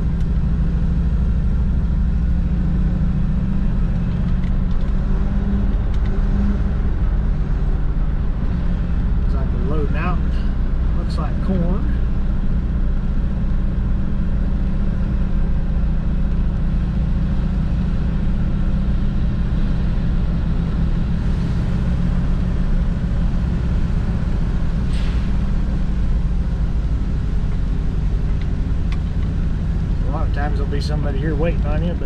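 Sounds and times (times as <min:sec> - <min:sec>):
truck engine drone from cab: 0:00.0 - 0:32.0.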